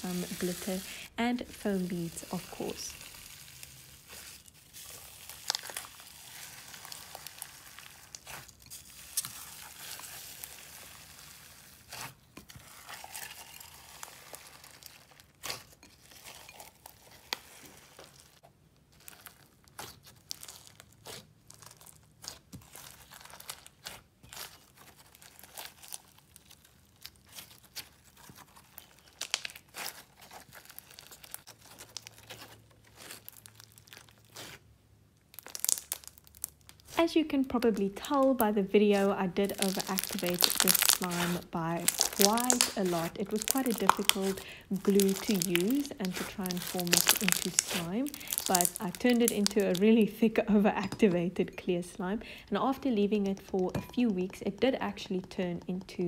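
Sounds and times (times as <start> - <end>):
slime crackling and popping: 0.0 - 51.0.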